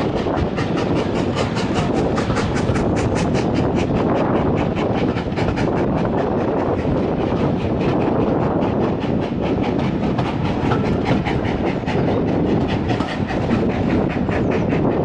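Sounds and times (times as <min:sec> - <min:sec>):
train wheels clattering on track: 0:00.0 - 0:15.0.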